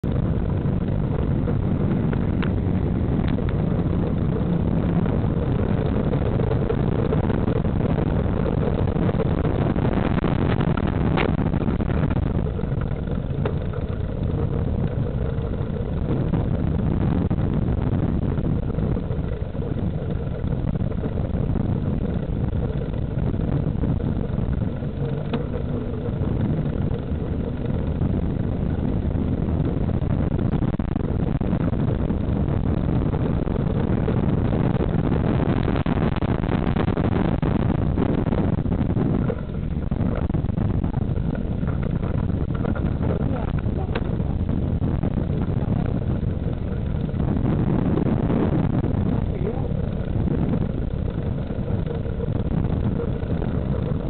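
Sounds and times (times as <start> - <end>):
tyres on pavement: 0.0 - 35.1, 35.9 - 54.0
wind on microphone: 0.0 - 54.0.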